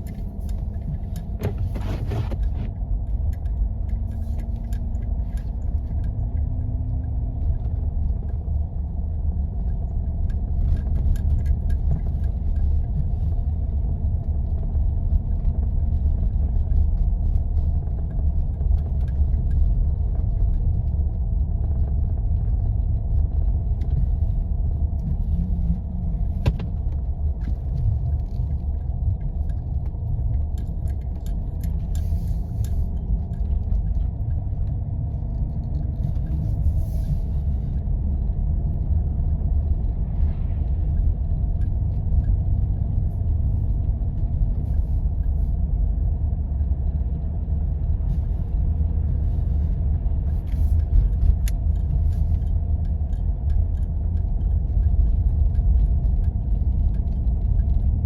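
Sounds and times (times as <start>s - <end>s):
vehicle rumble on snowy road: 0.0s - 58.0s.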